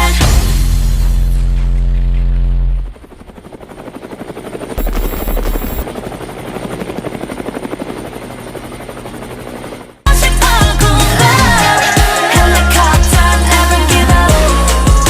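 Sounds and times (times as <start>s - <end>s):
helicopter rotor chopping: 2.4s - 15.0s.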